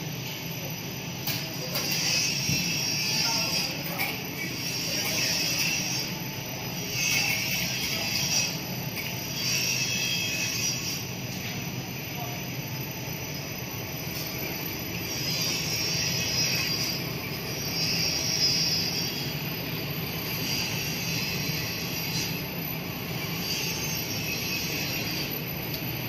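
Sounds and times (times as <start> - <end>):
machine motors and rollers humming: 0.0 - 26.0.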